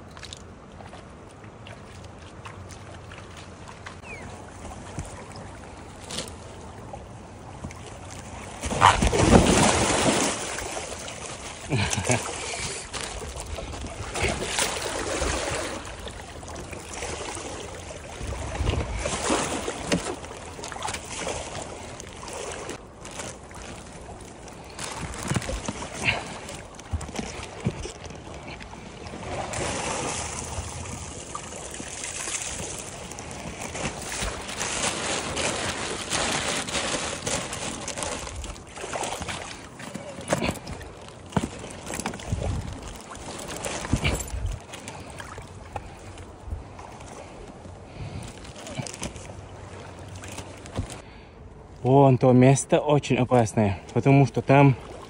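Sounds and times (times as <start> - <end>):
river water rushing and splashing: 0.0 - 51.0.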